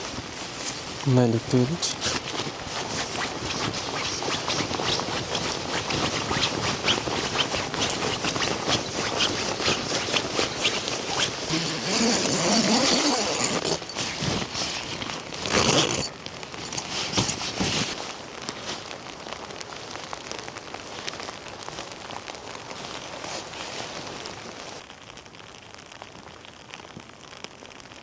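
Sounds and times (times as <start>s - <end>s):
rustling and scraping of things handled: 0.0s - 24.8s
rain pattering on a tent: 0.0s - 28.0s.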